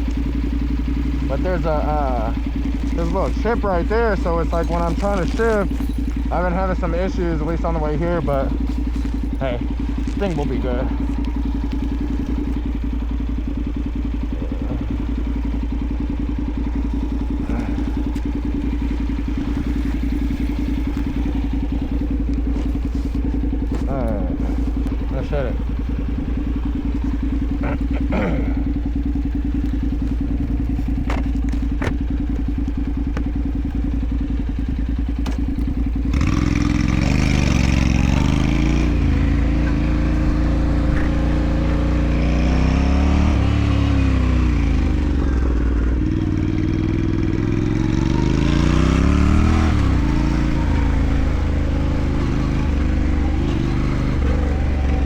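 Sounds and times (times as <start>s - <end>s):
motorcycle accelerating: 0.0s - 55.0s
motorcycle engine idling: 0.0s - 55.0s.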